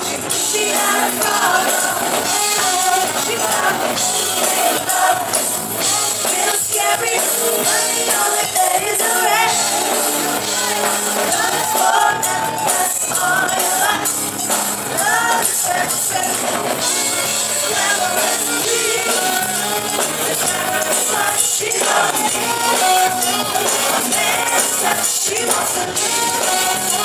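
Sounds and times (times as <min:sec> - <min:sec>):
live band music with singing: 0:00.0 - 0:27.0.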